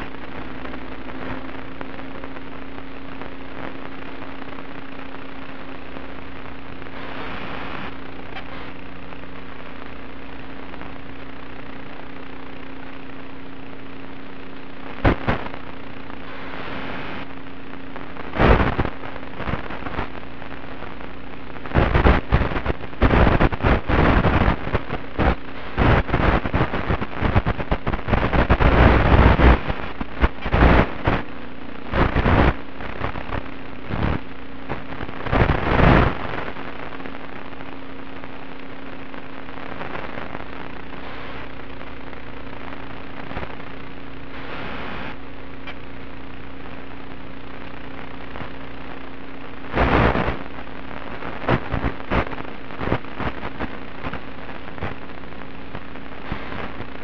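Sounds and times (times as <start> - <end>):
faint steady hum: 0.0 - 57.0
loud crackling bursts: 0.0 - 57.0
static hiss: 0.0 - 57.0.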